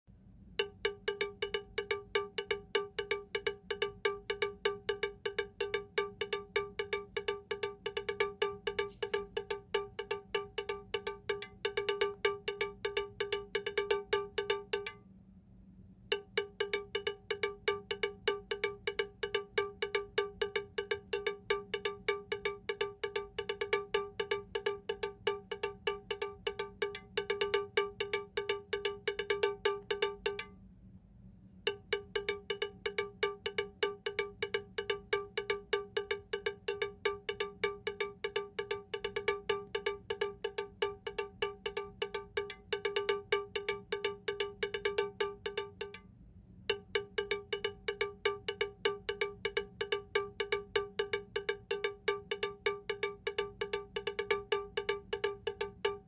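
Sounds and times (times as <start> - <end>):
rapid metallic bell strikes: 0.6 - 15.0, 16.1 - 30.5, 31.7 - 46.0, 46.7 - 56.0.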